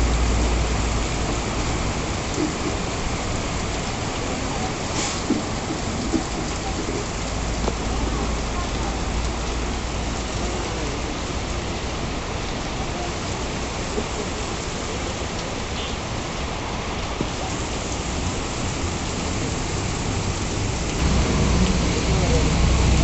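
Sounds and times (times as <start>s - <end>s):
heavy rain on paved road: 0.0s - 23.0s.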